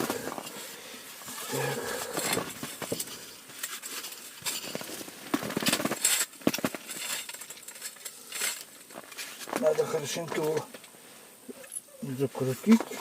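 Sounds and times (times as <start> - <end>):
fishing gear clicking and scraping: 0.0 - 11.9.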